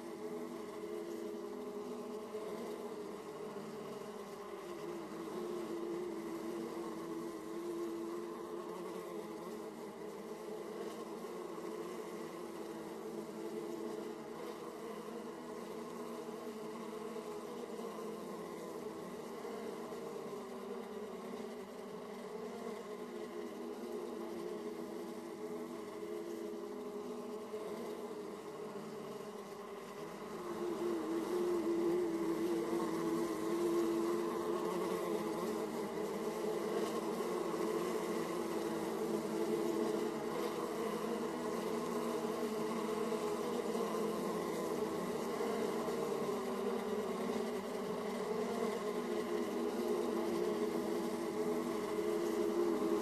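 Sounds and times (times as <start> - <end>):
honeybees buzzing: 0.0 - 53.0.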